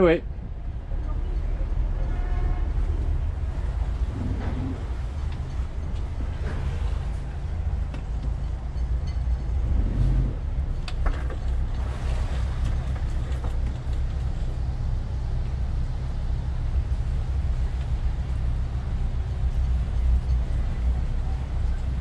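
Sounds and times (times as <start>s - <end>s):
diesel engines idling: 0.0s - 22.0s.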